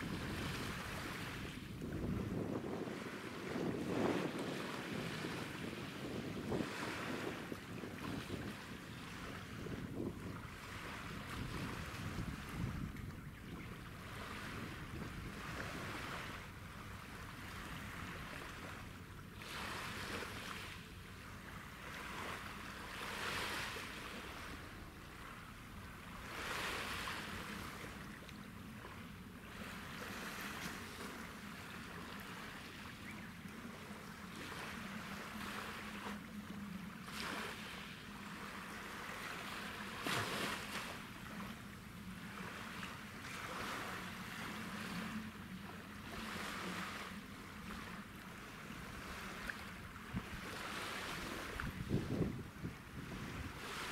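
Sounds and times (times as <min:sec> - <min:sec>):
small waves washing on shore: 0:00.0 - 0:53.9.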